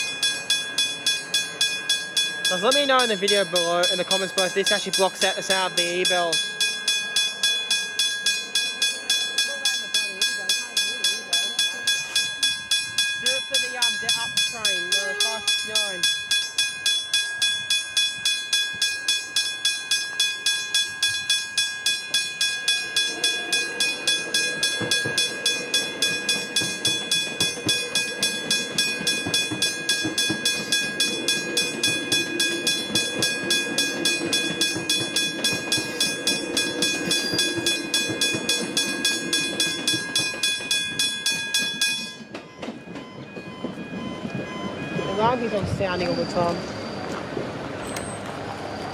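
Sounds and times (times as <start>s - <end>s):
railway crossing bell ringing: 0.0s - 48.9s
train rumble: 0.0s - 48.9s.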